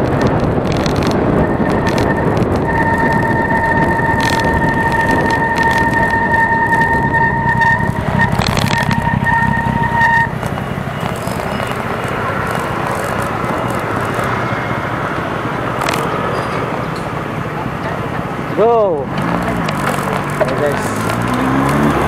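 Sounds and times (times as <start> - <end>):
road rumble: 0.0 - 22.0
street noise: 0.0 - 22.0
wind: 0.0 - 22.0
bicycle brake squealing: 0.1 - 17.1, 18.6 - 22.0.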